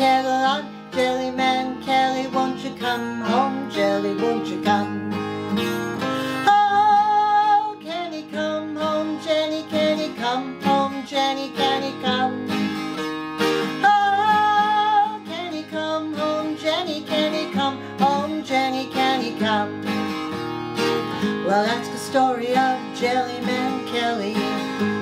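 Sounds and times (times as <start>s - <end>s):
woman singing: 0.0s - 5.2s, 6.3s - 12.9s, 13.7s - 20.0s, 21.2s - 25.0s
acoustic guitar strumming: 0.0s - 25.0s.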